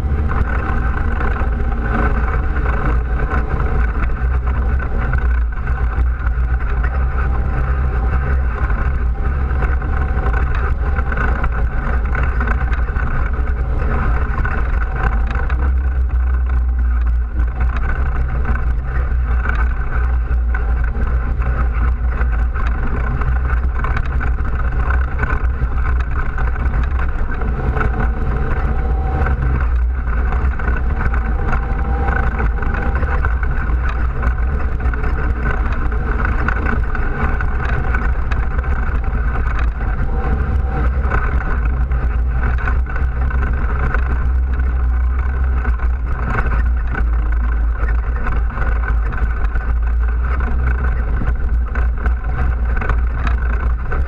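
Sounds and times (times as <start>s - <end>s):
atv engine running: 0.0s - 54.0s
knocks and rattles: 0.0s - 54.0s.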